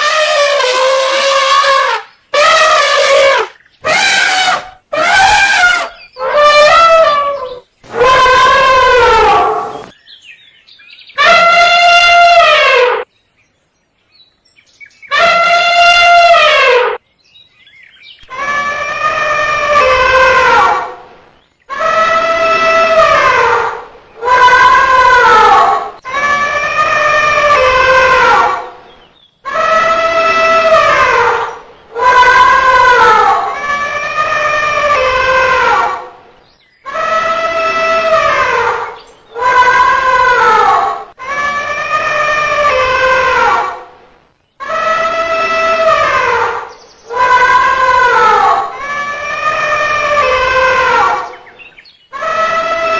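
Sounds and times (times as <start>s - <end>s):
elephant trumpeting: 0.0s - 9.9s, 11.2s - 13.0s, 15.1s - 17.0s, 18.3s - 21.1s, 21.7s - 28.8s, 29.5s - 36.2s, 36.9s - 44.0s, 44.6s - 51.4s.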